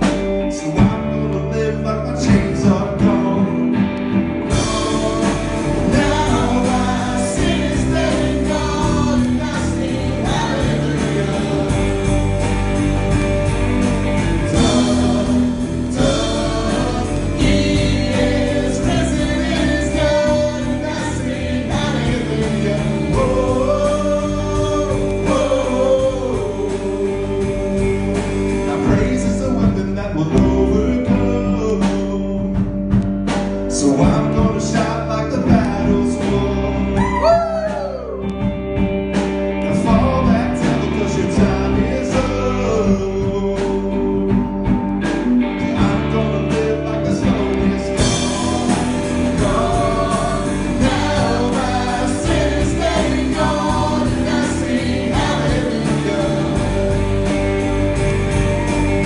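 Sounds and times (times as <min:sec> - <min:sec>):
worship song with sung vocals: 0:00.0 - 0:03.8, 0:04.5 - 0:12.8, 0:14.0 - 0:38.2, 0:39.6 - 0:57.7.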